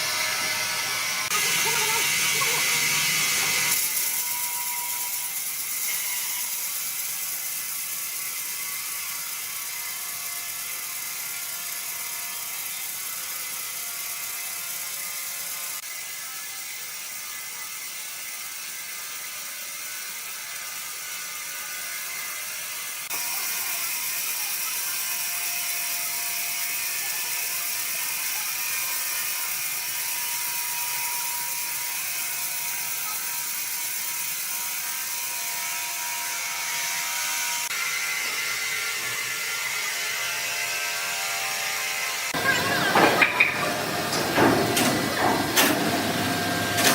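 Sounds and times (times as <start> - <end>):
sawmill machinery hissing: 0.0 - 46.9.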